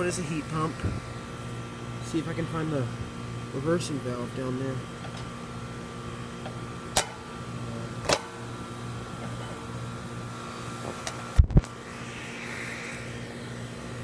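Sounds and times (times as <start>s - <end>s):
compressor hum: 0.0s - 14.0s
fan noise: 0.0s - 14.0s.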